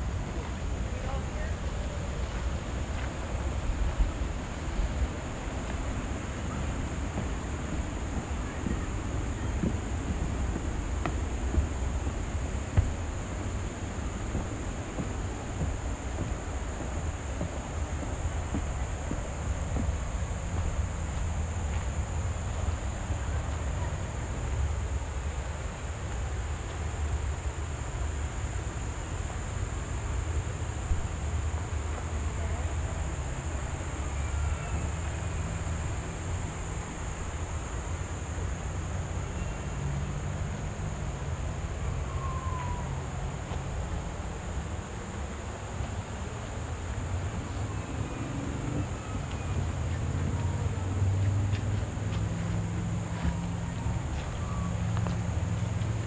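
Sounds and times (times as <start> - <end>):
rushing noise with low rumble: 0.0 - 32.4, 39.9 - 56.0
insect chorus: 0.0 - 56.0.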